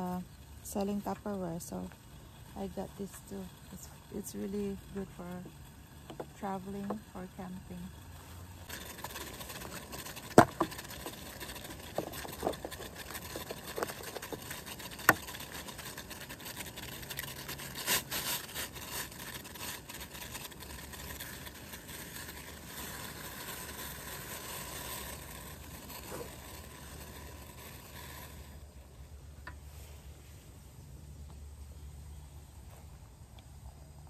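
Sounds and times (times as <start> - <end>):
camp stove hissing: 0.0 - 32.9.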